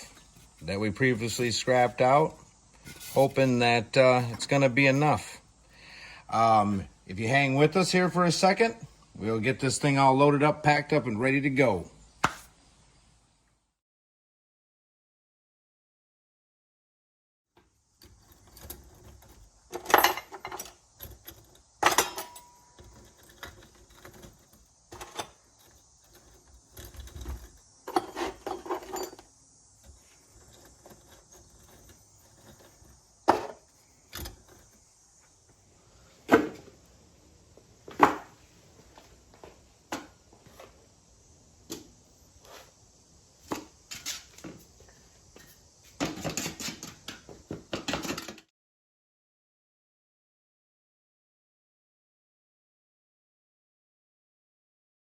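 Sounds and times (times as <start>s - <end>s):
faint steady hiss: 0.0s - 13.8s, 17.6s - 48.4s.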